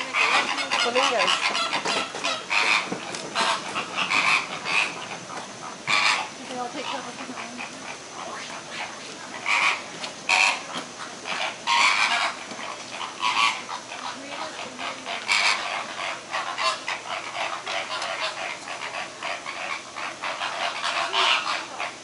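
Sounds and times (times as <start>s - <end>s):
flamingos calling: 0.0s - 22.0s.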